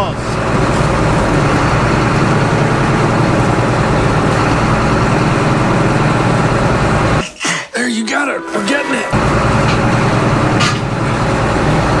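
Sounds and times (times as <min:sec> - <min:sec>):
heavy diesel engine running: 0:00.0 - 0:07.2, 0:09.1 - 0:12.0.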